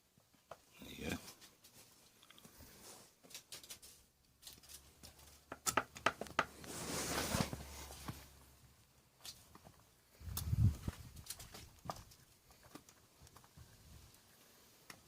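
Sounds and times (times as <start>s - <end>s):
rustling: 0.4s - 5.5s, 6.1s - 15.0s.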